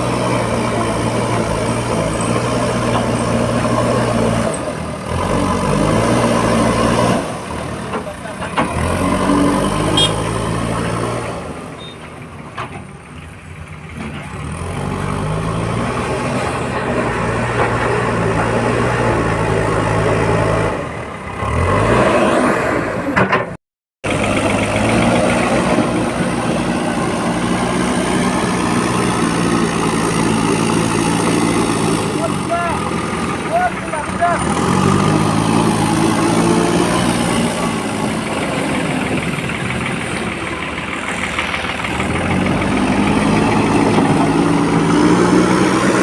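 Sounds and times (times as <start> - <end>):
backhoe diesel engine revving: 0.0 - 46.0.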